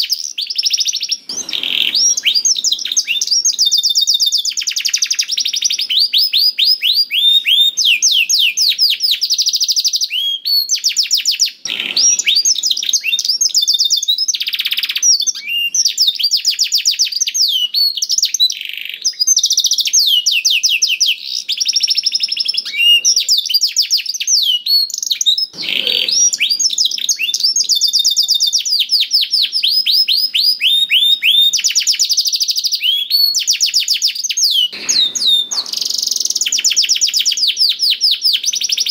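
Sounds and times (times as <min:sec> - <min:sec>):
canary singing in fast trills: 0:00.0 - 0:38.9.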